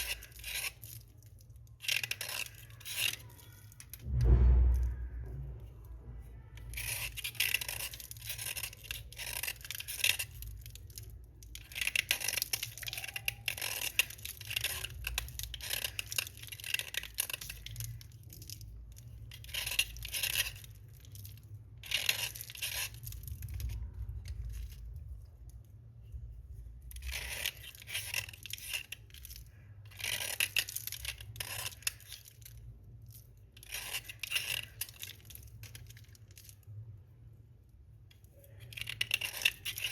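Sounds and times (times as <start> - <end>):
slate pencils crunching and scraping: 0.0 - 4.0, 6.6 - 36.9, 38.1 - 39.9.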